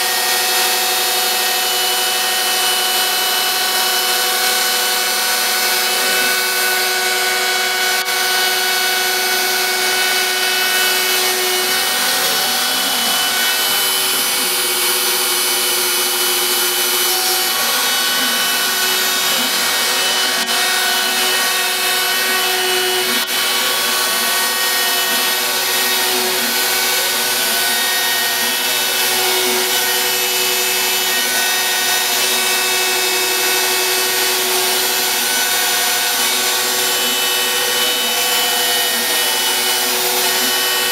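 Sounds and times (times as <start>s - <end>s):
router spindle cutting board: 0.0s - 40.9s.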